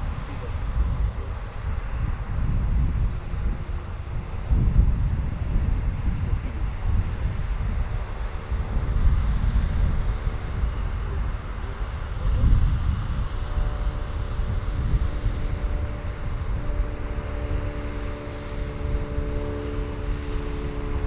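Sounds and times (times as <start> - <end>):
combine harvester machine hum: 0.0 - 21.0
heavy low rumble: 0.0 - 21.0.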